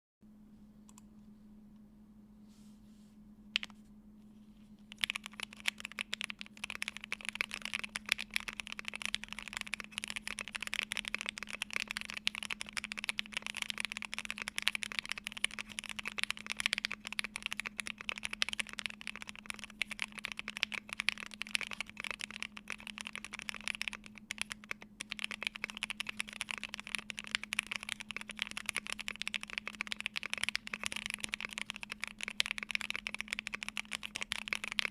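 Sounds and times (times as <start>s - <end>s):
mechanical keyboard typing: 4.9s - 34.9s.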